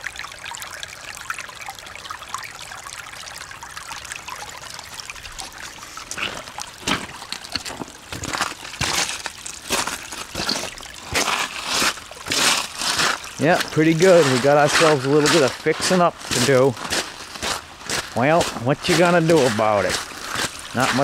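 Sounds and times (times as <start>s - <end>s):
water trickling over gravel: 0.0s - 21.0s.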